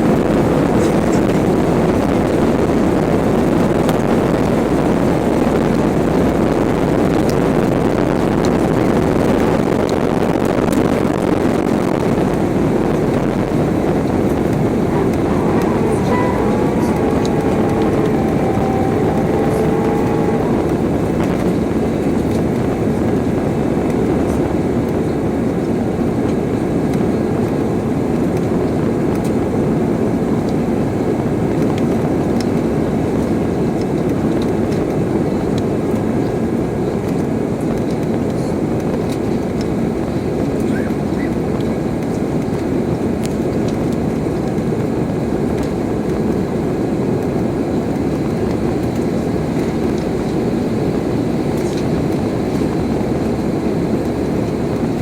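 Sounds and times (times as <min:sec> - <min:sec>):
jet engine cabin rumble: 0:00.0 - 0:55.0.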